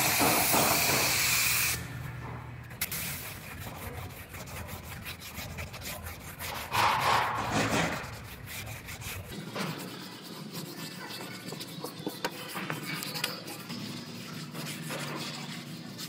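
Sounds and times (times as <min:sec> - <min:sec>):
sandpaper rubbing back and forth: 0:02.8 - 0:16.0.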